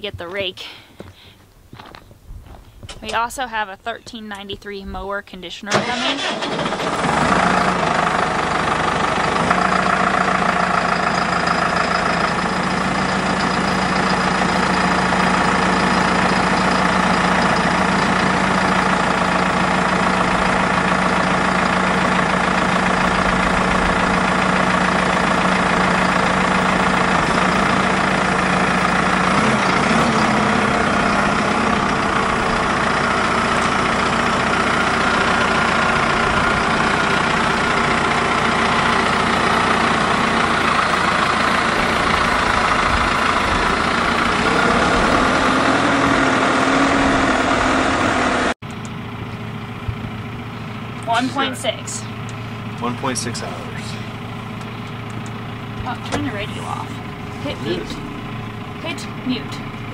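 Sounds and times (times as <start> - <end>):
tractor diesel engine idling: 3.0 - 59.9.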